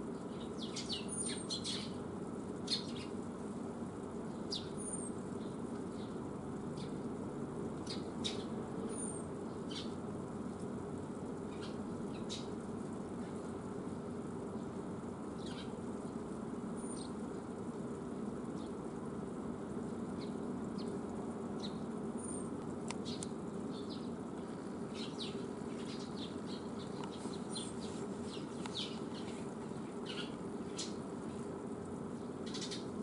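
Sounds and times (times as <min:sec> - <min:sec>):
small birds chirping: 0:00.0 - 0:33.0
steady low hum: 0:00.0 - 0:33.0.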